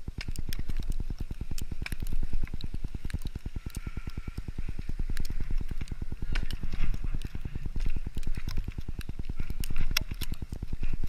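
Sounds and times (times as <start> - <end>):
faint clicks and scrapes: 0.0 - 11.0
skis gliding over snow: 0.0 - 11.0.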